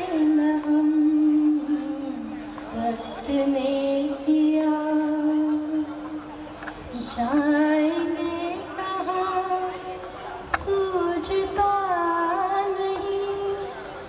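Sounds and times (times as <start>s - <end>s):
woman singing: 0.0s - 6.1s, 6.9s - 13.9s.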